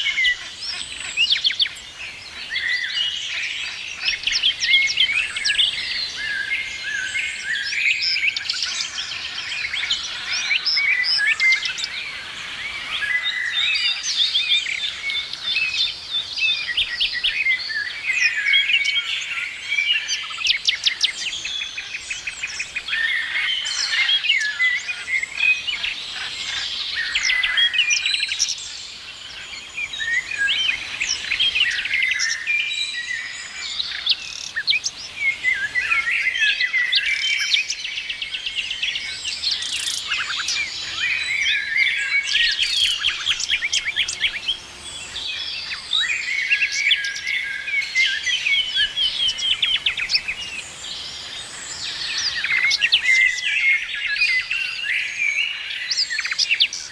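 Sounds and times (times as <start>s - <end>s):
songbirds chirping and trilling: 0.0s - 56.9s.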